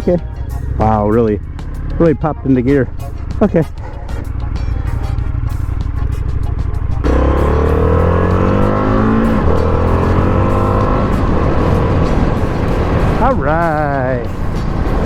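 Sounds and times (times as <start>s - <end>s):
motorcycle engine accelerating: 0.4s - 15.0s.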